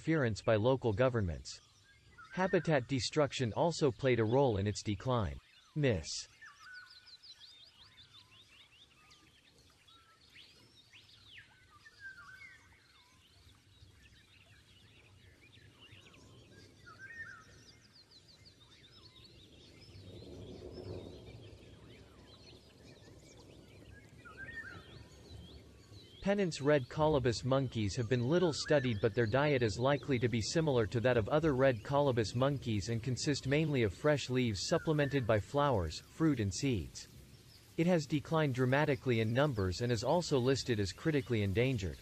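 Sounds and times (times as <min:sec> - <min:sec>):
birds calling: 0:00.0 - 0:42.0.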